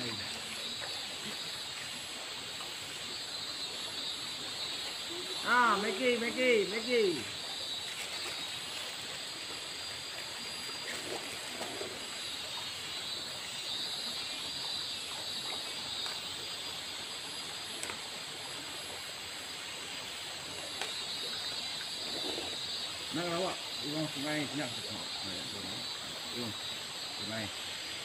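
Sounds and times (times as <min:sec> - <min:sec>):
river water running over rocks: 0:00.0 - 0:28.0.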